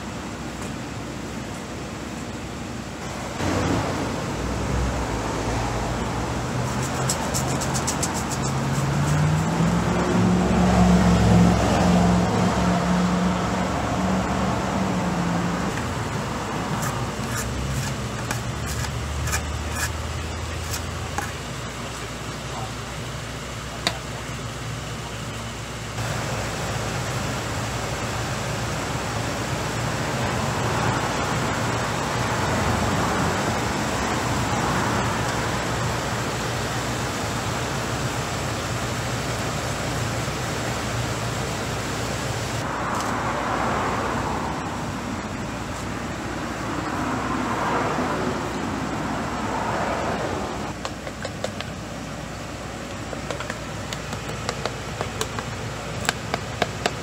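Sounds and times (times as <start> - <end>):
road traffic noise: 0.0 - 57.0
vehicles passing: 0.0 - 57.0.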